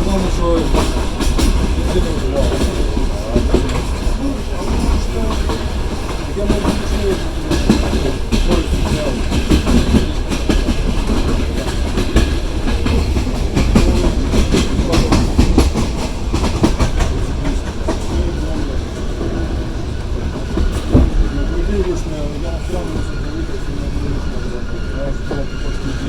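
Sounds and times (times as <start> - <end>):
train rumbling: 0.0 - 26.0
wheels clattering over rail joints: 0.0 - 26.0.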